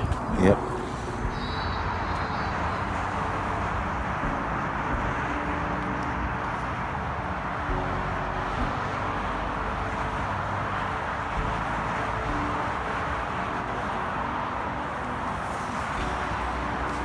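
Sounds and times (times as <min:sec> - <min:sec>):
heavy motorway traffic: 0:00.0 - 0:17.0.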